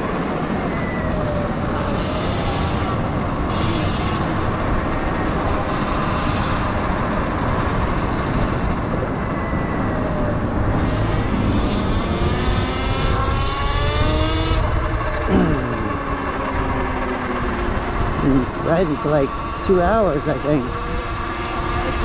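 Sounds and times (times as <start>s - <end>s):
wind rush on microphone: 0.0s - 19.8s, 20.5s - 22.0s.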